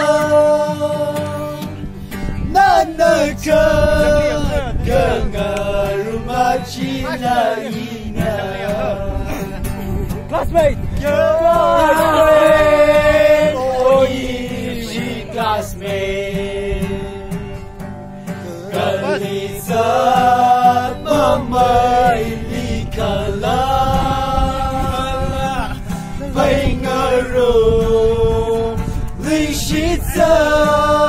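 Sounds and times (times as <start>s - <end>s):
group singing in unison: 0.0s - 1.8s, 2.4s - 9.8s, 11.0s - 17.6s, 18.4s - 31.0s
acoustic guitar: 0.0s - 31.0s.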